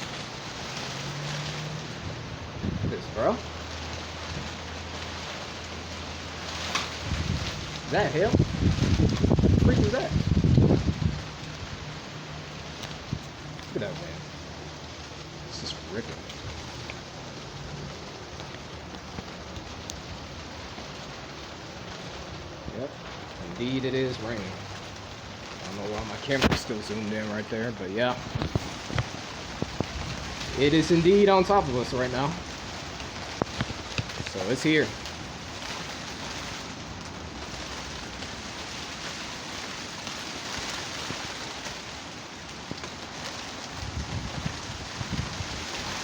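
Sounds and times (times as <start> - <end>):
heavy rain falling: 0.0 - 46.0
wind noise: 0.0 - 46.0.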